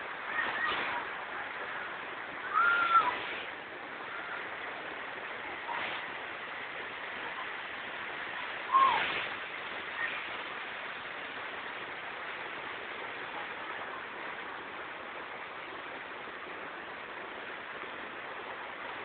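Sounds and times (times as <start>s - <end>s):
small waterfall hissing: 0.0s - 19.0s.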